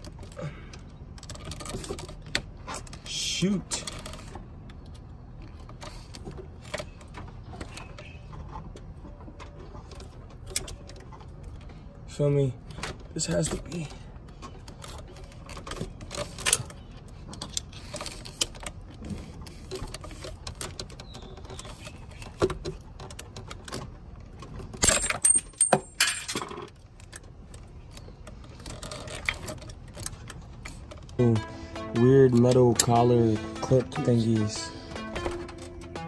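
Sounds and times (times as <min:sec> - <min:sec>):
small metal parts clicking and scraping: 0:00.0 - 0:31.2.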